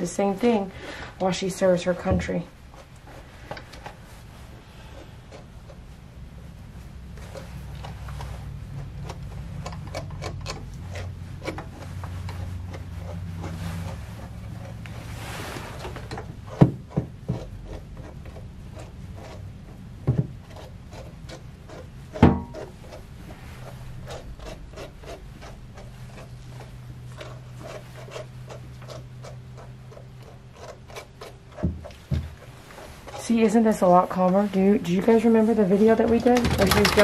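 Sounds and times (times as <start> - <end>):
brush rasping through dog coat: 2.6 - 37.0.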